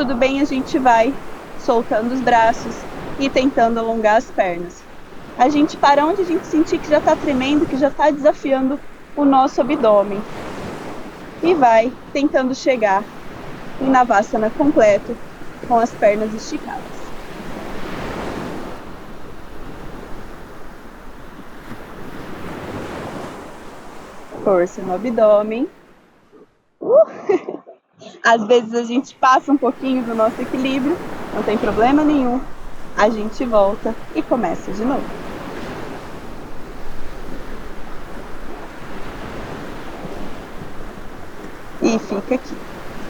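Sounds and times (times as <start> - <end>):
wind on microphone: 0.0 - 25.9, 29.4 - 43.0
ocean surf breaking on beach: 0.0 - 26.4, 29.2 - 43.0.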